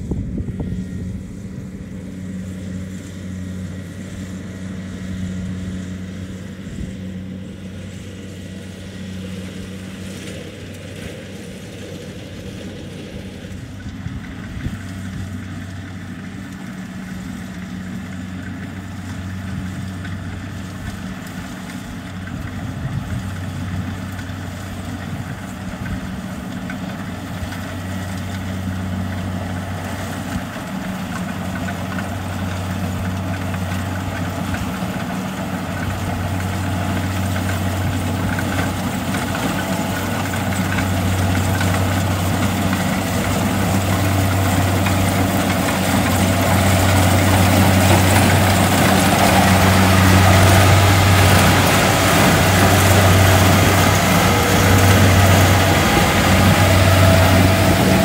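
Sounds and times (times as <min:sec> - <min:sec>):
combine harvester diesel drone: 0:00.0 - 0:58.0.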